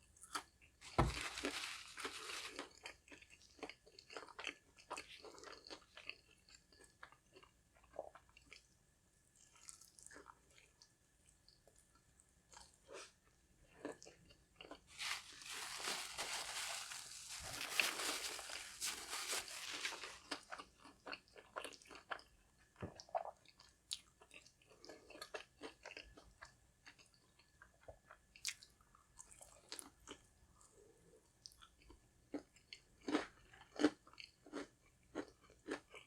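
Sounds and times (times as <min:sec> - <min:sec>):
crunching fried food: 0:00.2 - 0:08.6, 0:09.4 - 0:10.8, 0:12.5 - 0:30.7, 0:31.4 - 0:36.0.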